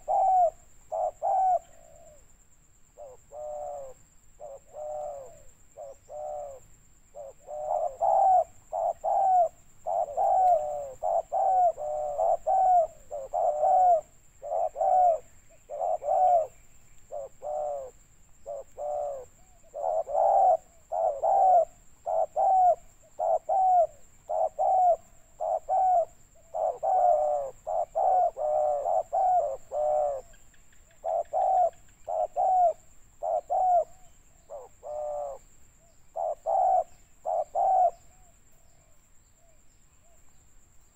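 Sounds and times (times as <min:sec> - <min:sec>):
doves cooing: 0:00.0 - 0:02.3, 0:03.0 - 0:35.5, 0:36.1 - 0:39.6.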